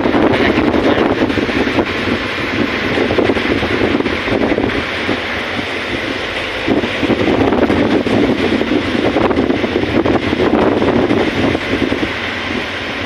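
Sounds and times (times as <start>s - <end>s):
wash of water: 0.0s - 13.0s
wind buffeting microphone: 0.0s - 13.0s.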